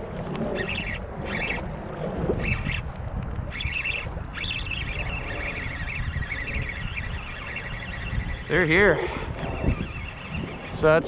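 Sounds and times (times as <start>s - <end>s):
fishing reel drag buzzing: 0.0s - 11.0s
wind noise: 0.0s - 11.0s.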